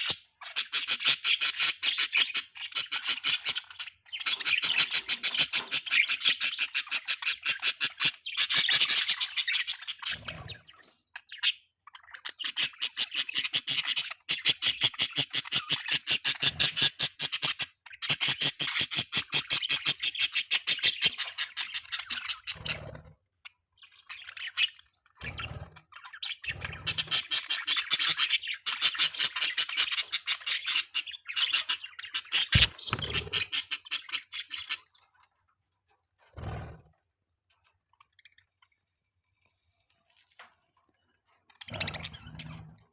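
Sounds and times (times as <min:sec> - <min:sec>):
budgerigars chattering: 0:00.0 - 0:23.0, 0:23.9 - 0:34.9, 0:41.6 - 0:42.8.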